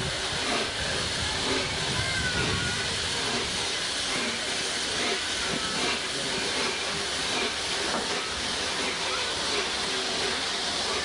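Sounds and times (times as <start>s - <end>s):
steam hissing: 0.0s - 11.0s
steam locomotive moving off: 0.0s - 11.0s.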